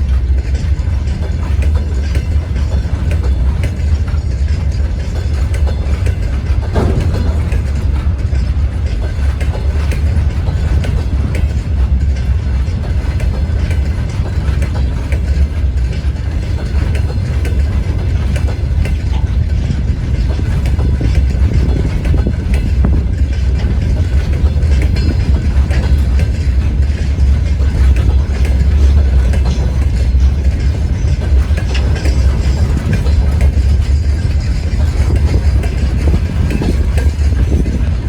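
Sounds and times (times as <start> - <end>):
freight train low rumble: 0.0 - 38.0
wheels clicking over rails: 0.0 - 38.0.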